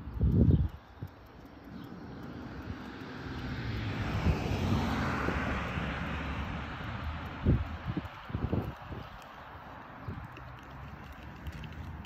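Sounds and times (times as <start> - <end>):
car passing: 1.6 - 12.0.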